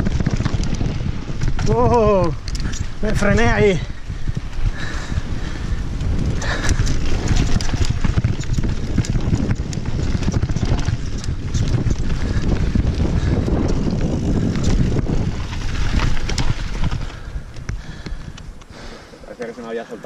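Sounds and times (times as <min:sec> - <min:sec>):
tyre rumble: 0:00.0 - 0:18.4
wind buffeting microphone: 0:00.0 - 0:19.4
bike clicks and rattles: 0:00.0 - 0:20.0.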